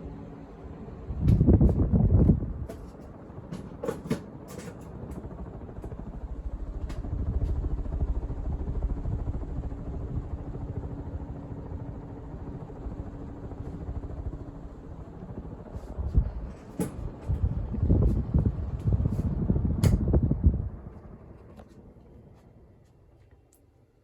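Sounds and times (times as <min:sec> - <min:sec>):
ceiling fan air rumble: 0:00.0 - 0:24.0
faint motor hum: 0:00.0 - 0:24.0.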